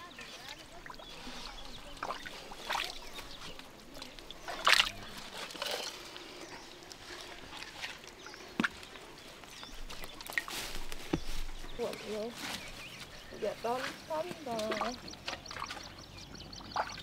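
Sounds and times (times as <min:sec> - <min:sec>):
mud and water sloshing: 0:00.0 - 0:17.0.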